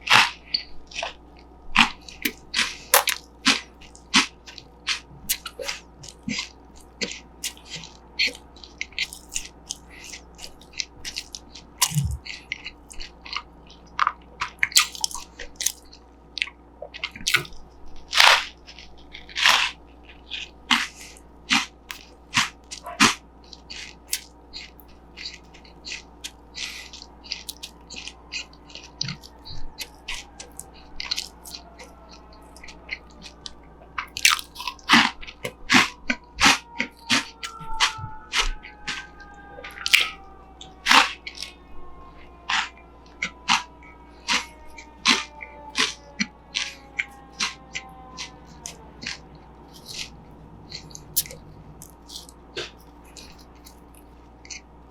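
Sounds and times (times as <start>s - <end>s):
crunching and chewing corn puffs: 0.0s - 54.9s.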